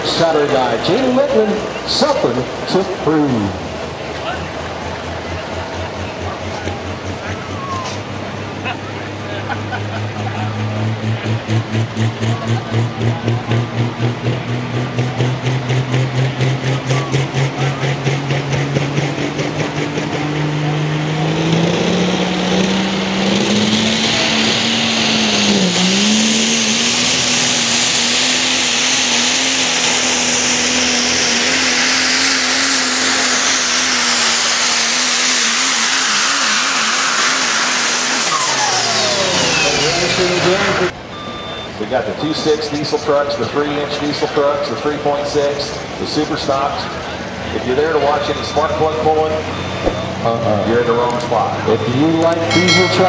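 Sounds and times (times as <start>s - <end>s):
diesel truck engine revving: 0.0s - 53.0s.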